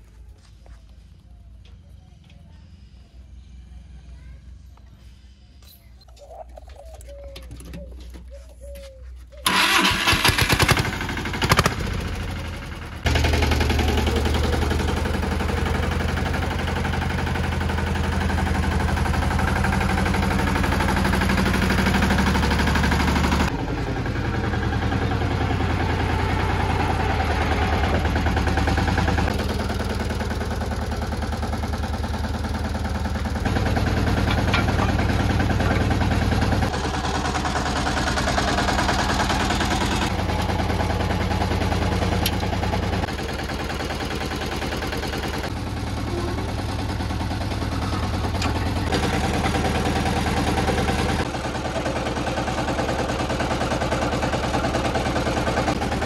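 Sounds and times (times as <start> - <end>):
small diesel engine running: 9.4 - 56.0.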